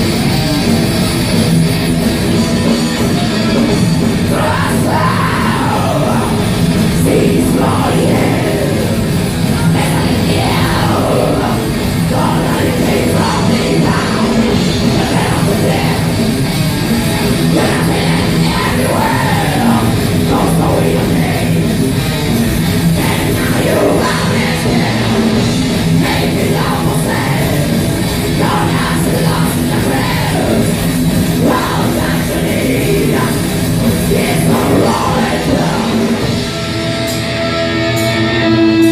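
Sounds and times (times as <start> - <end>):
heavy metal band playing: 0.0 - 38.9
vocalist singing and yelling: 2.1 - 37.2.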